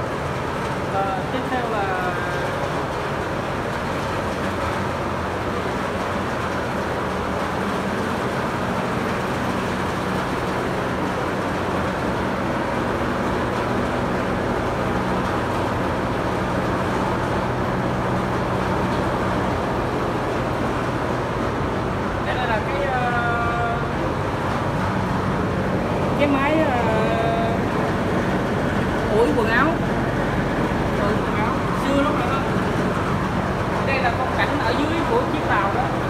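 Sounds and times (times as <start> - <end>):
electric drum fans rushing: 0.0 - 36.0.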